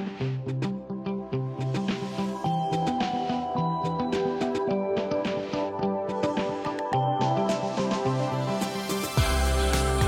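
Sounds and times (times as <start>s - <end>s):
electronic music with synth: 0.0s - 10.0s.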